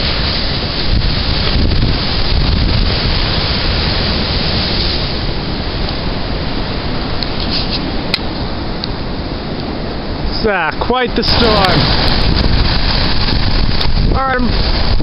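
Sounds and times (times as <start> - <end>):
heavy surf roaring: 0.0 - 15.0
storm wind: 0.0 - 15.0
wind buffeting microphone: 0.0 - 15.0.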